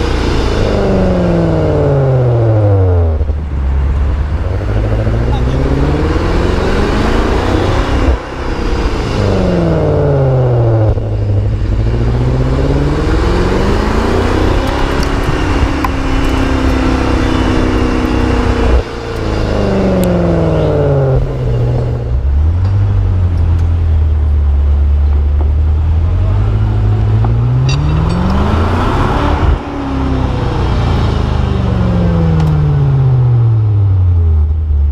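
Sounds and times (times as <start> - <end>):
car engine accelerating: 0.0 - 34.9
low engine drone: 0.0 - 34.9.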